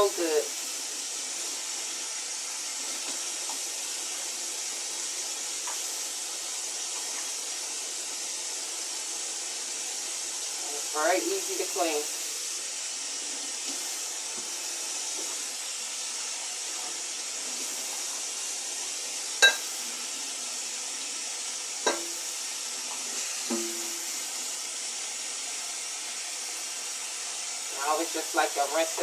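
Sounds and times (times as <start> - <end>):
tap water running: 0.0 - 29.0.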